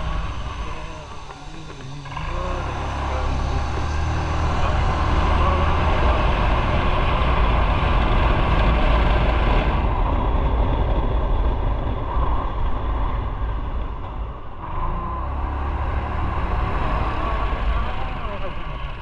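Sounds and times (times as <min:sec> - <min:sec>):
wind noise: 0:00.0 - 0:15.2
motorcycle engine: 0:00.0 - 0:19.0.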